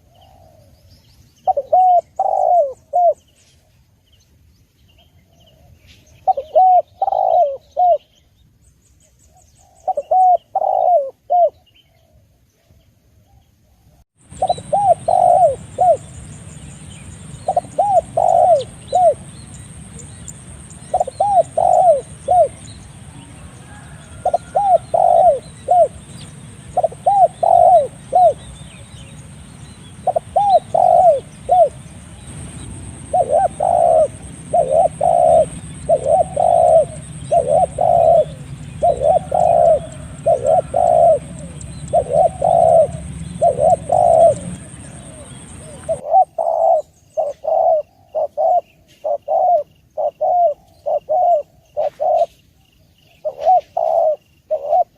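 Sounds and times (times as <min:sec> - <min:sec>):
dove cooing: 0:00.0 - 0:00.7, 0:01.4 - 0:03.2, 0:05.5 - 0:08.1, 0:09.6 - 0:12.2, 0:14.3 - 0:16.5, 0:17.1 - 0:29.2, 0:29.8 - 0:52.4, 0:53.1 - 0:54.9
background hiss: 0:00.0 - 0:54.9.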